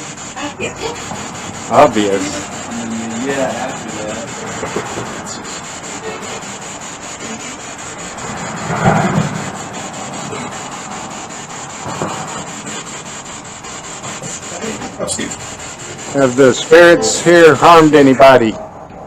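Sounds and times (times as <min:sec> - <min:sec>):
radio static sweeping: 0:00.0 - 0:18.6.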